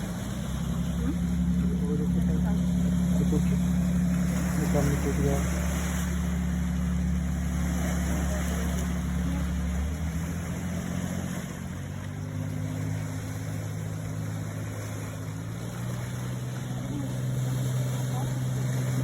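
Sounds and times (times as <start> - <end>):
motorboat engine drone: 0.0 - 19.0
water and wind hiss: 0.0 - 19.0.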